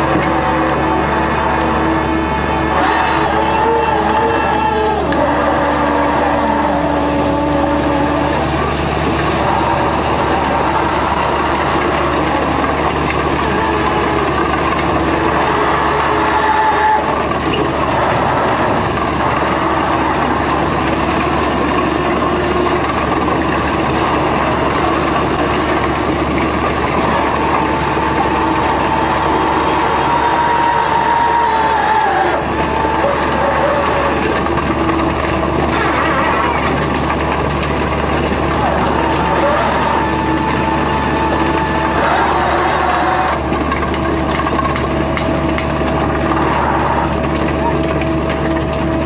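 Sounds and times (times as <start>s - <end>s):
heavy deck machinery running: 0.0s - 49.0s
whining tones: 0.0s - 49.0s.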